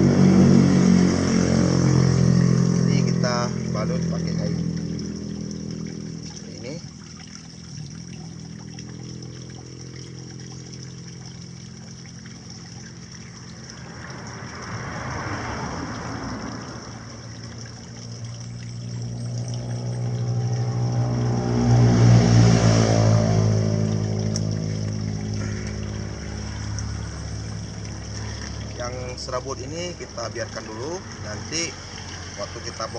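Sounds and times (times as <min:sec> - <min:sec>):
trickling water: 0:00.0 - 0:32.9
vehicle engine passing: 0:00.0 - 0:32.9.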